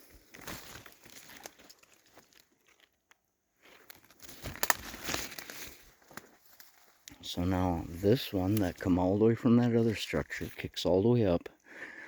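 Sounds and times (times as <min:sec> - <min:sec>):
footsteps crunching through dry leaves: 0:00.0 - 0:02.9, 0:03.6 - 0:10.8.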